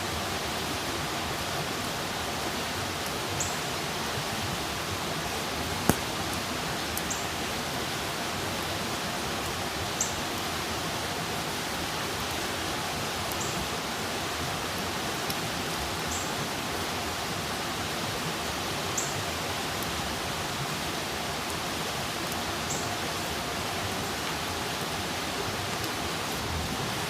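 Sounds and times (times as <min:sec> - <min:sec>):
campfire hissing and crackling: 0:00.0 - 0:27.0.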